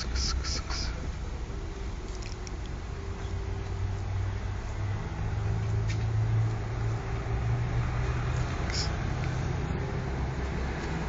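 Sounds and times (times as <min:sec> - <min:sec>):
low steady engine hum: 0:00.0 - 0:11.0.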